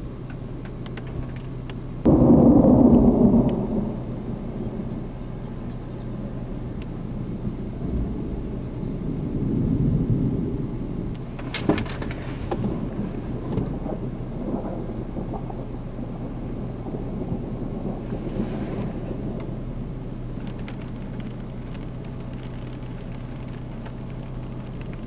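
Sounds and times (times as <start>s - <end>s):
thunder rumbling: 2.0s - 25.0s.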